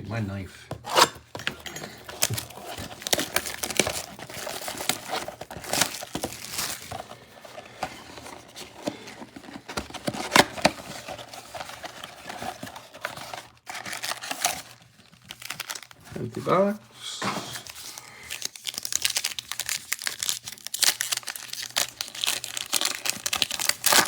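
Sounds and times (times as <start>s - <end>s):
plastic packaging crinkling and tearing: 2.0s - 16.5s, 17.6s - 24.0s.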